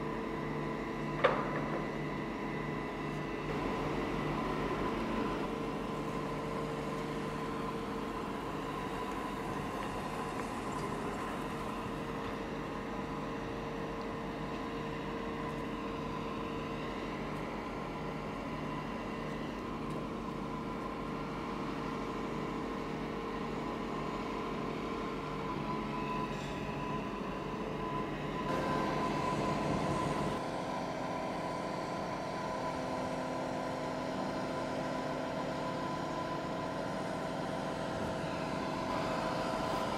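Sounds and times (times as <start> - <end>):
diesel engine humming under load: 0.0 - 39.9.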